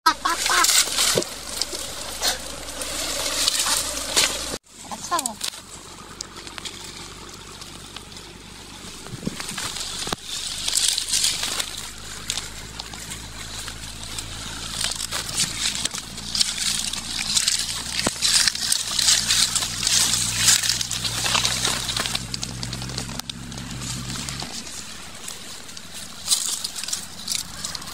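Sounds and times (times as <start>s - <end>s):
dry leaves rustling and crackling: 0.1s - 27.9s.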